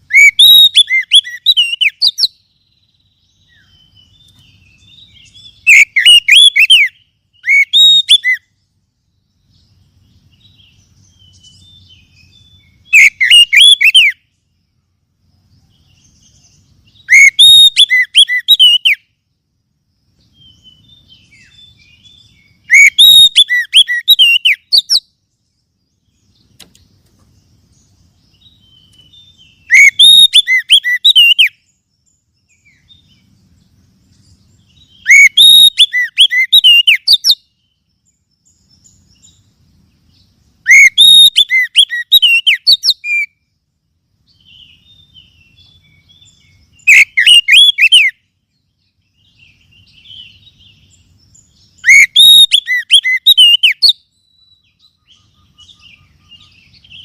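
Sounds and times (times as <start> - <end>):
bird whistling song: 0.0 - 14.8, 15.4 - 19.3, 20.2 - 43.6, 44.3 - 57.0.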